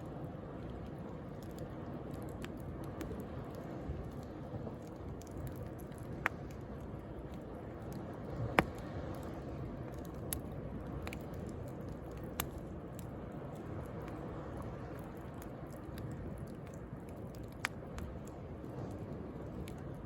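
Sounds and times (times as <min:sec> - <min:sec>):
bonfire crackling and popping: 0:00.0 - 0:20.0
sea waves: 0:01.9 - 0:20.0.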